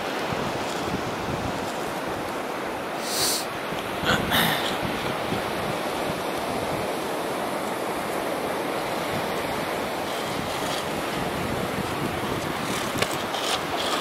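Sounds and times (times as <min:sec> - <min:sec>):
wind buffeting microphone: 0:00.0 - 0:02.5, 0:03.6 - 0:14.0
ocean surf: 0:00.0 - 0:14.0.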